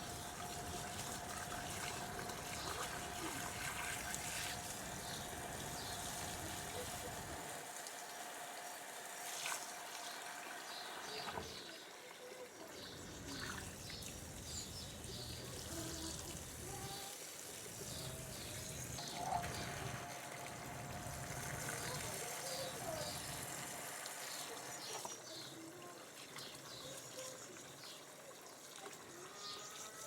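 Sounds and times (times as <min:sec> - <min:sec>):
water trickling: 0:00.0 - 0:30.0.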